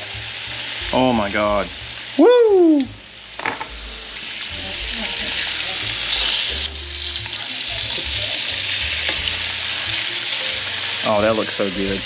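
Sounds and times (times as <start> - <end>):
steaks sizzling in a pan: 0.0 - 12.0.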